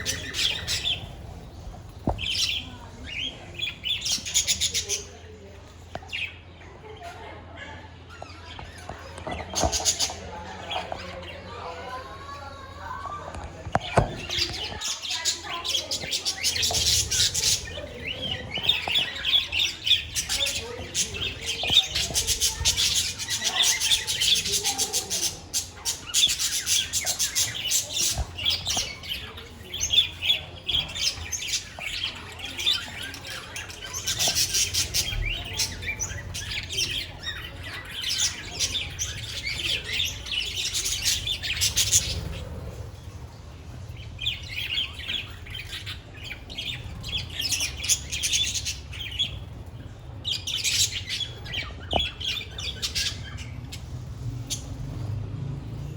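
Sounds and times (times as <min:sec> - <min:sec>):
budgerigars chirping and chattering: 0:00.0 - 0:12.0, 0:13.4 - 0:55.2.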